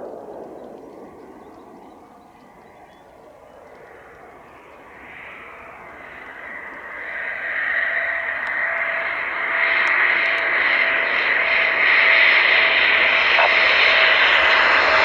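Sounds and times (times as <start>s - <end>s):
jet rushing with whine: 0.0s - 15.0s.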